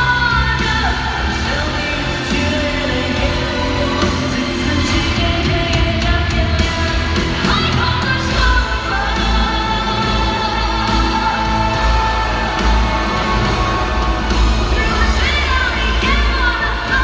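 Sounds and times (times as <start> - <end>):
live pop-rock band: 0.0 - 17.0.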